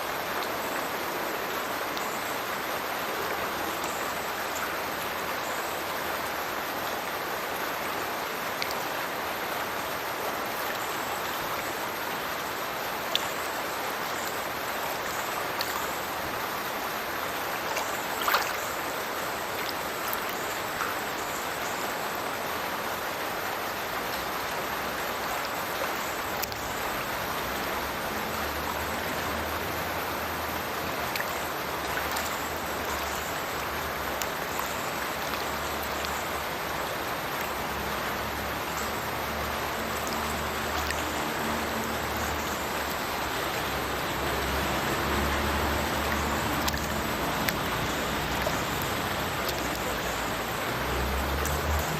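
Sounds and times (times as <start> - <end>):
water drips: 0.0 - 51.9
water rushing and splashing: 0.0 - 51.9.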